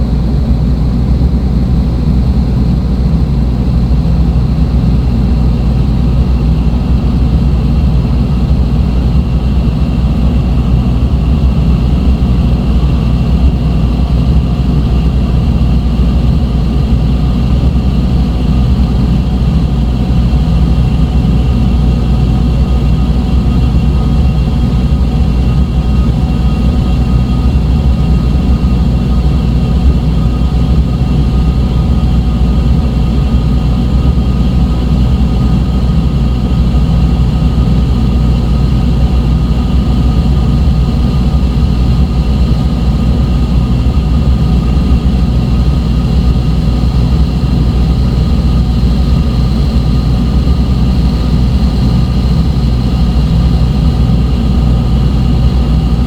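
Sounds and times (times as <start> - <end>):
low electronic drone rumble: 0.0 - 56.0.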